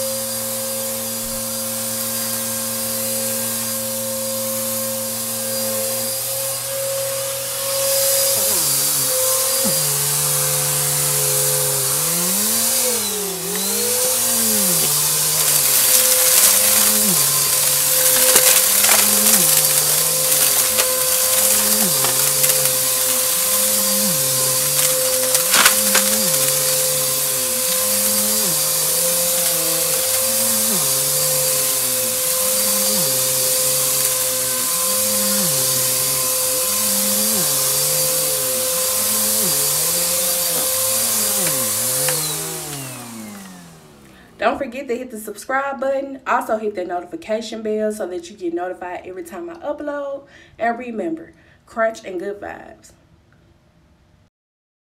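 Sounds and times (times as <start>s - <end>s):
vacuum cleaner motor whine: 0.0s - 44.6s
debris crackling in vacuum: 0.1s - 44.3s.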